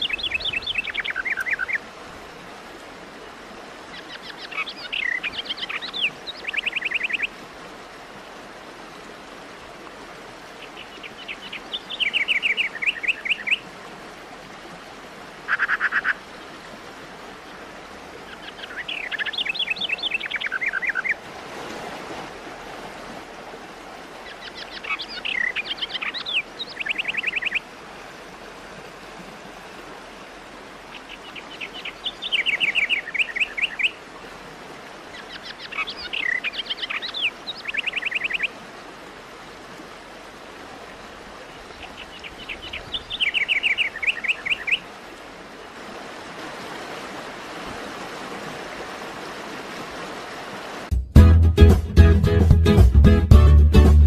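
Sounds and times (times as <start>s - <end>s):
falling water rushing: 0.0s - 51.0s.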